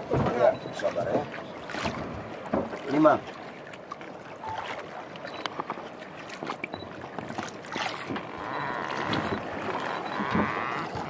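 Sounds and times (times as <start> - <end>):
rushing wash of water: 0.0 - 11.0
small knocks and splashes: 0.0 - 11.0
water lapping against boat hull: 0.0 - 11.0.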